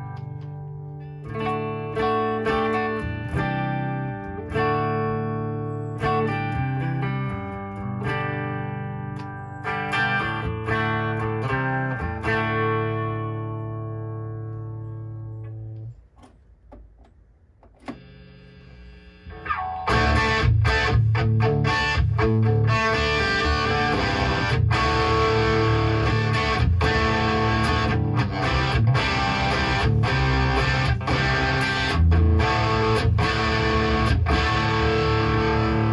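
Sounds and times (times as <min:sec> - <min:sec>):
distorted electric guitar riffing: 0:00.0 - 0:15.9, 0:17.8 - 0:35.9
electric guitar chord ringing: 0:00.0 - 0:15.9, 0:17.8 - 0:35.9.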